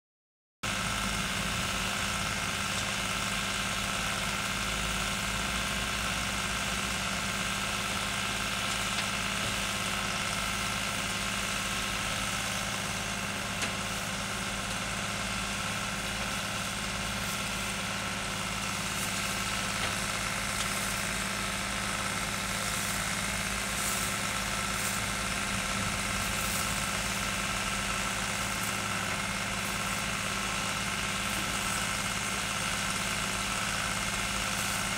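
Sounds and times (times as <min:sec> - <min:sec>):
tractor engine running: 0:00.7 - 0:34.9.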